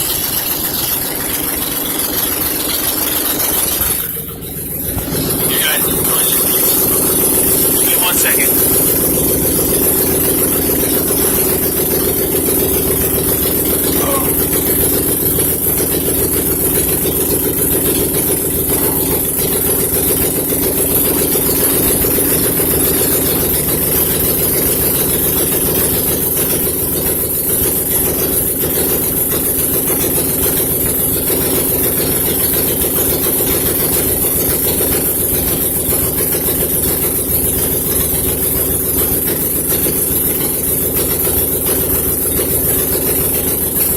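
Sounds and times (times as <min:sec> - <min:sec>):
car engine idling loudly: 0:00.0 - 0:43.9.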